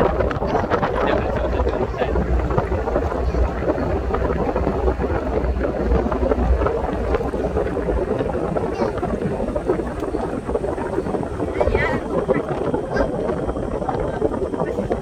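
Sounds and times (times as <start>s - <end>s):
engine and road rumble: 0.0s - 15.0s
wind buffeting microphone: 0.0s - 15.0s.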